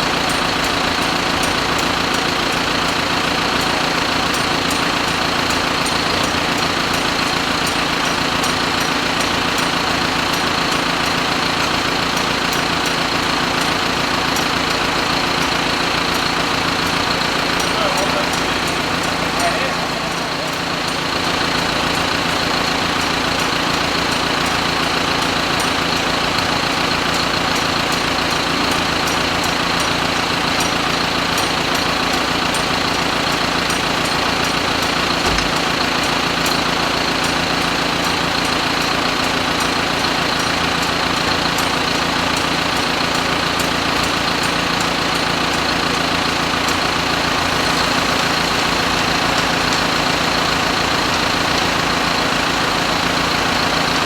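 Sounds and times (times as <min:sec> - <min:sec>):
faint regular ticking: 0:00.0 - 0:54.0
quad bike engine idling: 0:00.0 - 0:54.0.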